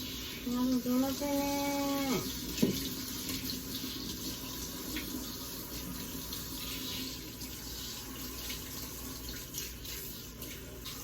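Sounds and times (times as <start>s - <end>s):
water running in bath: 0.0s - 11.0s.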